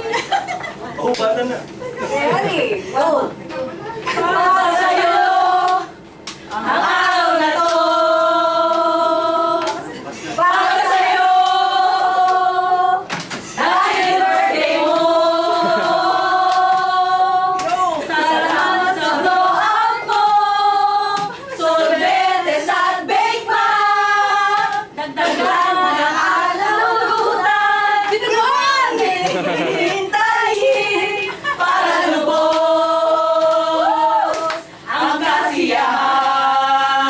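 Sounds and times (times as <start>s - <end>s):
women singing together: 2.0s - 37.0s.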